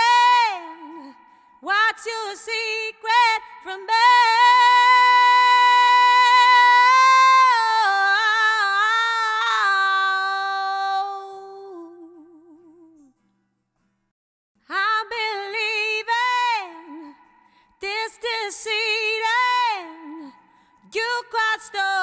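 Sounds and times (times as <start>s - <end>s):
woman singing with vibrato: 0.0s - 13.1s, 14.7s - 22.0s.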